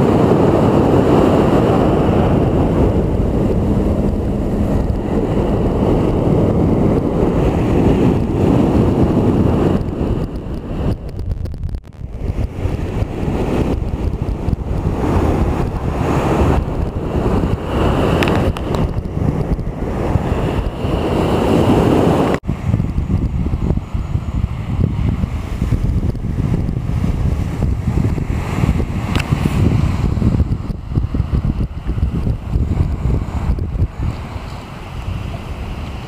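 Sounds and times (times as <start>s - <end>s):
sea waves washing on shore: 0.0s - 36.0s
wind buffeting microphone: 0.0s - 36.0s.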